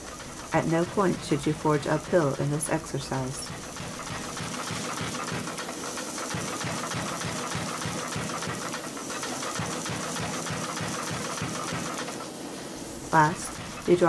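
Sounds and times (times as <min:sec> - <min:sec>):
power hammer striking hot steel: 0:00.0 - 0:12.3.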